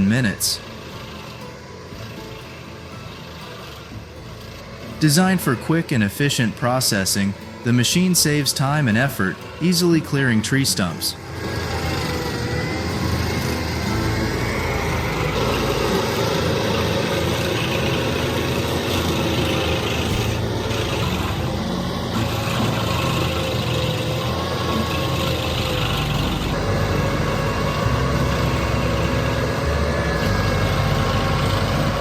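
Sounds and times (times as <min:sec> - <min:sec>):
stump grinder engine running: 0:00.0 - 0:32.0.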